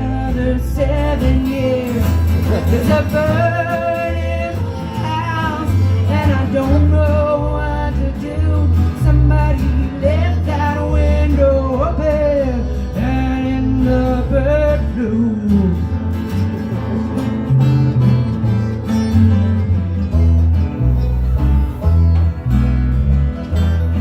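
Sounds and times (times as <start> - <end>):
bass line: 0.0 - 24.0
guitar: 0.0 - 24.0.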